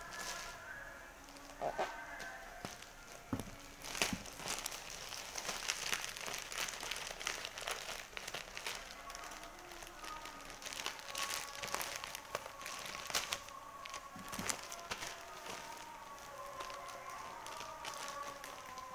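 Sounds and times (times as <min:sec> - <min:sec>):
plastic bag crinkling: 0:00.0 - 0:18.9.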